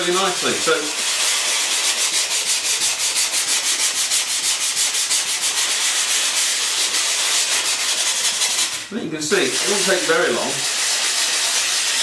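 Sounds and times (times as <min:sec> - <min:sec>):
sandpaper sanding foam: 0:00.0 - 0:12.0.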